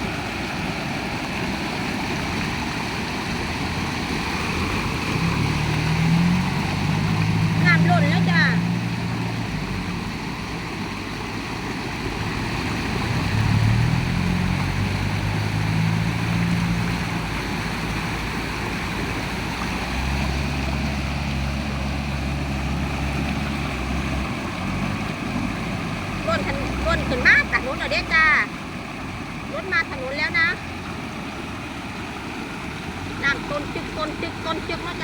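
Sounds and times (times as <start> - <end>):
floodwater rushing: 0.0 - 35.0
vehicle engines passing: 0.0 - 35.0.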